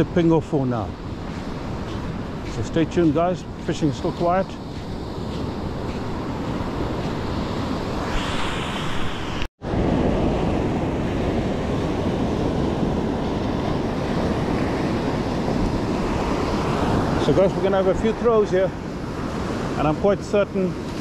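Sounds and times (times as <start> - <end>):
ocean surf washing onto beach: 0.0 - 21.0
wind rumbling on microphone: 1.0 - 21.0.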